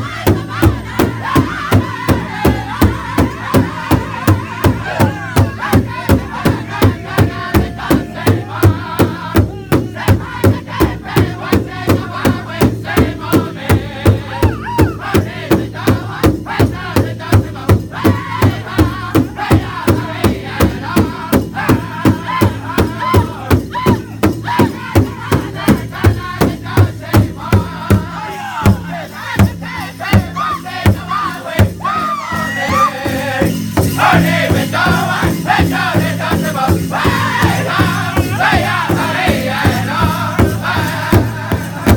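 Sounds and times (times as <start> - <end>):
high-pitched group singing: 0.0 - 41.9
large drum steady beat: 0.0 - 41.9.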